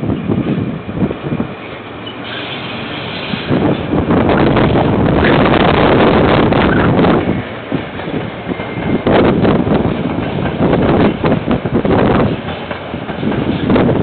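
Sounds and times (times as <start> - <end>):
diesel freight train rumbling past: 0.0 - 14.0
wind buffeting microphone: 0.0 - 14.0.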